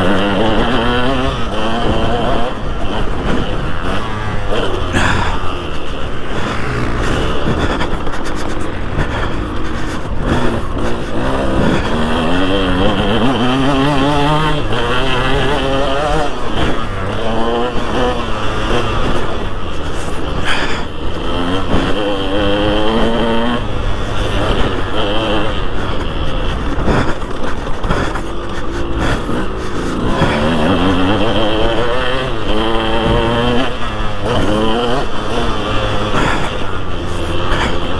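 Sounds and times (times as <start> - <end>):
motocross bike engine revving: 0.0 - 37.9
track noise: 0.0 - 37.9.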